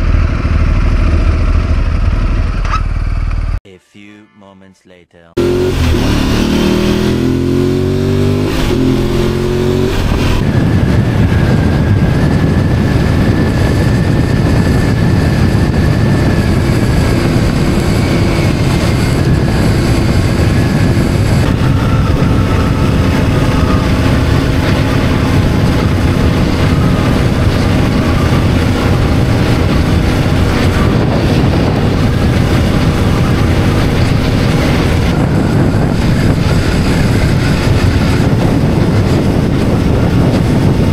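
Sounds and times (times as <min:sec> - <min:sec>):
motorcycle engine revving: 0:00.0 - 0:03.6, 0:05.4 - 0:40.9
wind rush: 0:05.4 - 0:40.9.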